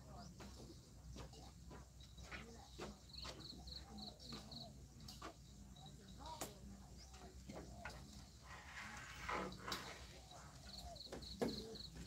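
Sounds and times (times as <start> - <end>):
faint distant voices: 0.0 - 12.0.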